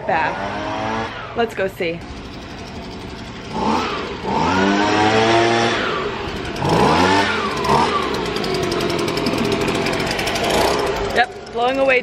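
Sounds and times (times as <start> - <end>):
leaf blower revving: 0.0 - 12.0.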